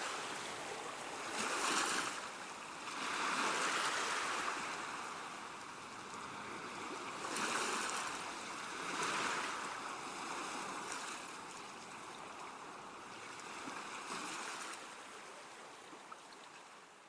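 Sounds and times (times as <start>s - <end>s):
ocean waves washing ashore: 0.0s - 17.0s.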